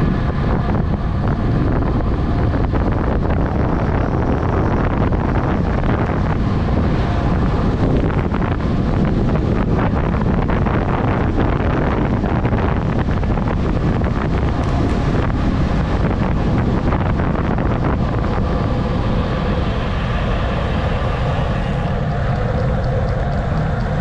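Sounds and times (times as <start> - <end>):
droning hum: 0.0 - 24.0
wind buffeting microphone: 0.0 - 24.0.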